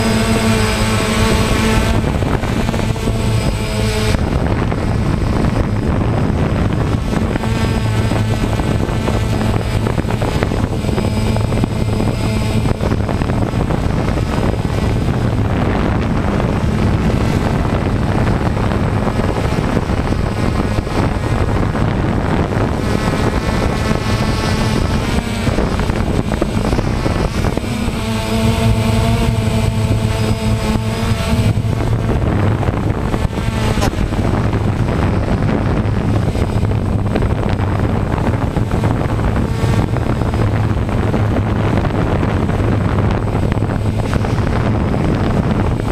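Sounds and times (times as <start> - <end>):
drone propellers whirring: 0.0 - 45.9
high-pitched whine: 0.0 - 45.9.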